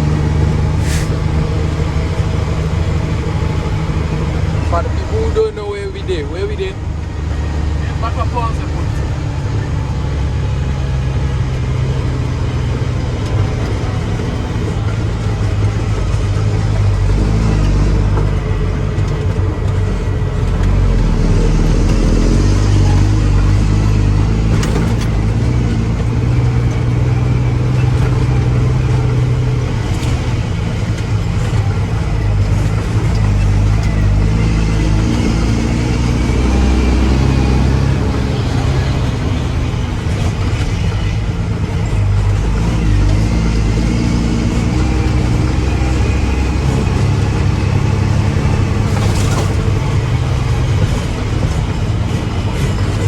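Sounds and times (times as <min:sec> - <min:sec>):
diesel truck engine revving: 0:00.0 - 0:53.0.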